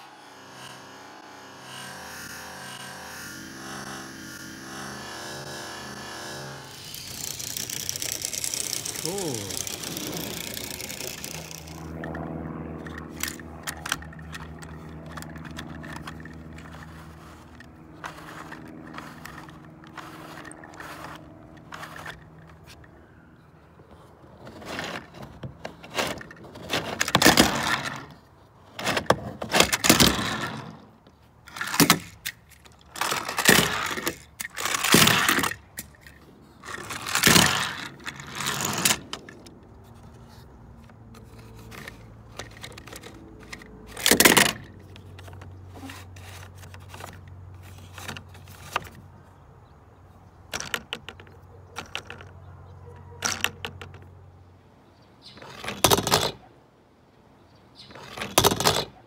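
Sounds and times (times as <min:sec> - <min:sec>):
low steady hum: 0:00.0 - 0:50.3
plastic toys rattling and scraping: 0:03.4 - 0:12.2, 0:12.8 - 0:23.1, 0:23.9 - 0:54.2, 0:55.2 - 0:56.5, 0:57.8 - 0:59.0.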